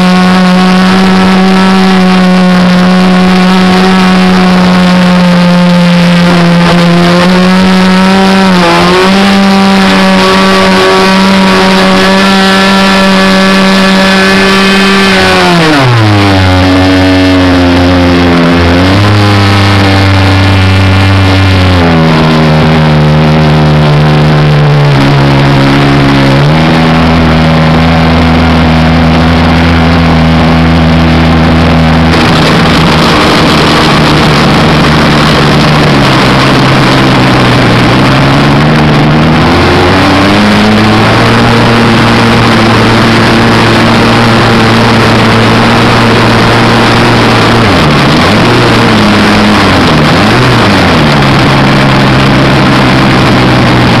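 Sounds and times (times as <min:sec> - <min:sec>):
model plane engine running: 0:00.0 - 0:54.0.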